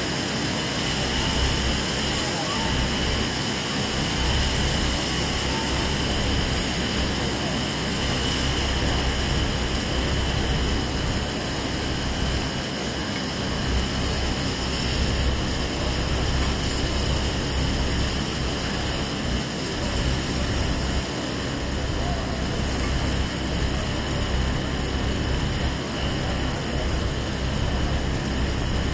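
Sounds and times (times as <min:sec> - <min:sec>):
city traffic rumble on wet street: 0:00.0 - 0:28.9.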